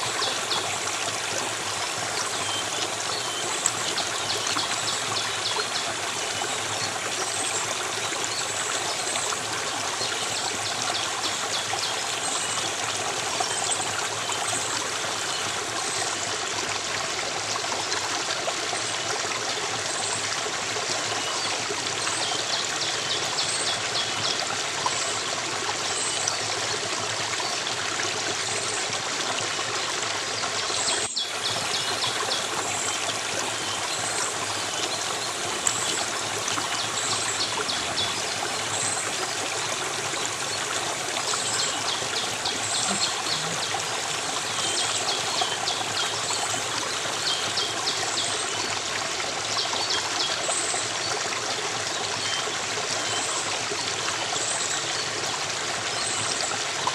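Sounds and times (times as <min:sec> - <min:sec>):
flowing stream water: 0:00.0 - 0:56.9.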